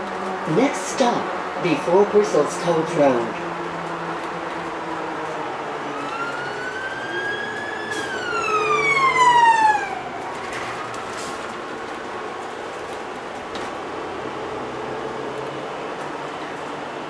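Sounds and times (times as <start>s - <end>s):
bus running noise: 0.0s - 17.0s
emergency vehicle siren wailing: 0.0s - 17.0s.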